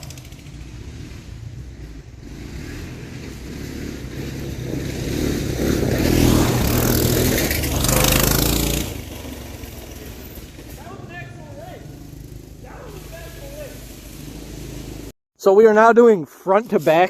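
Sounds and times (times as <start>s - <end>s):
small engines racing past: 0.0s - 15.1s.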